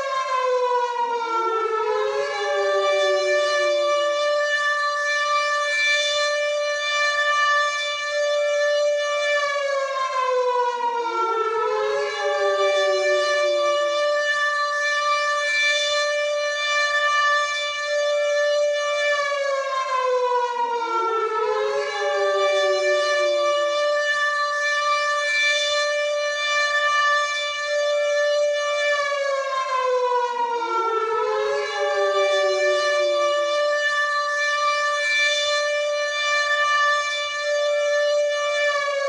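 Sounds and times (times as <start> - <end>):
air raid siren wailing: 0.0 - 39.0.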